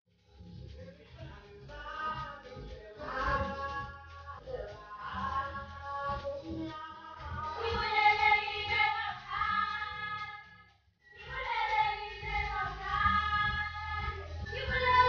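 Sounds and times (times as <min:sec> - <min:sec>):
song with singing over bass beat: 0:00.6 - 0:15.0.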